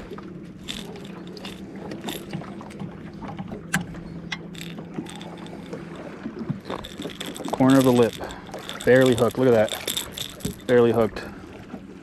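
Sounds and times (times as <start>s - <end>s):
fishing gear clicks and knocks: 0.0s - 11.3s.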